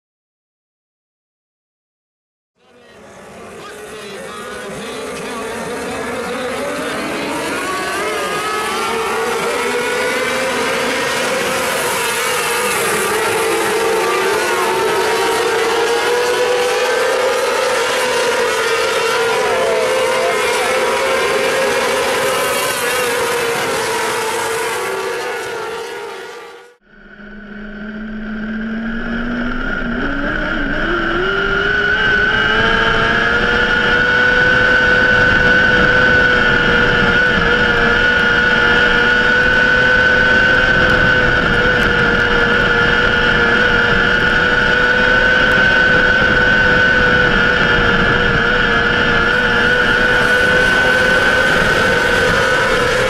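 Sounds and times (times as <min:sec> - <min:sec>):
motorcycle engine accelerating: 0:02.8 - 0:53.0.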